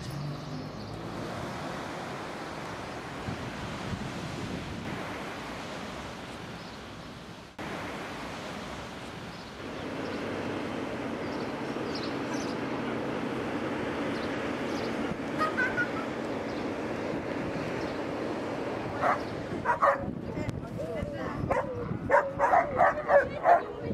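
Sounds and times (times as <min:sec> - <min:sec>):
harbour ambience hum: 0:00.0 - 0:23.9
wind: 0:00.0 - 0:23.9.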